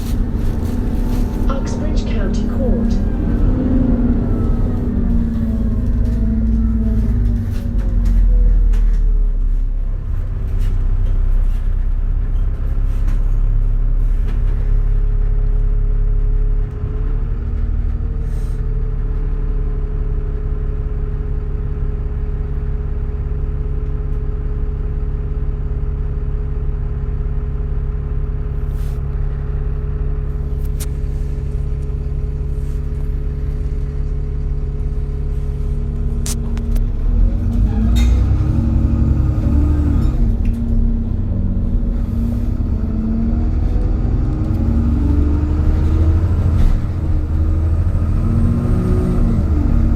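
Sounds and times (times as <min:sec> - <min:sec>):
bus engine drone: 0:00.0 - 0:49.9.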